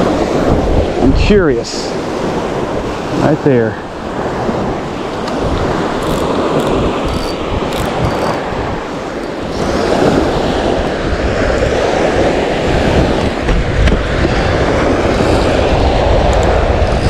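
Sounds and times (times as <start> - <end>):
surf washing on shore: 0.0 - 17.0
wind buffeting microphone: 0.0 - 17.0.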